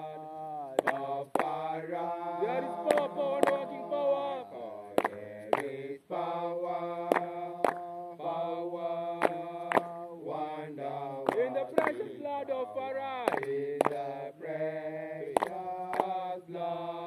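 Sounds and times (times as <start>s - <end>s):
voices chanting a hymn: 0.0s - 17.0s.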